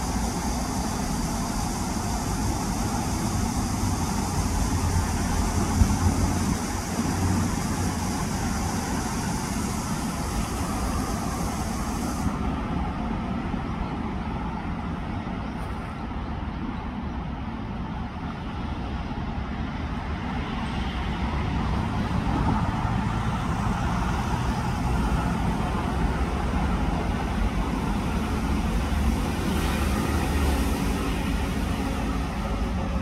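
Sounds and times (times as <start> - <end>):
hiss: 0.0 - 14.3, 20.0 - 33.0.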